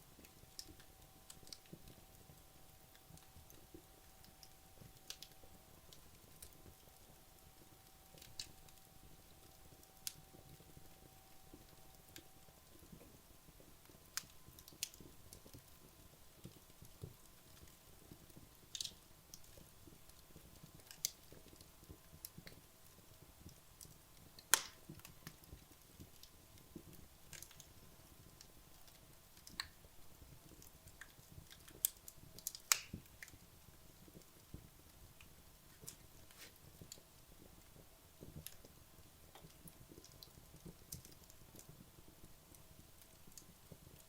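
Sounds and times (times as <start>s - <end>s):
low fire hiss: 0.0s - 44.0s
wood logs crackling and popping: 0.1s - 44.0s.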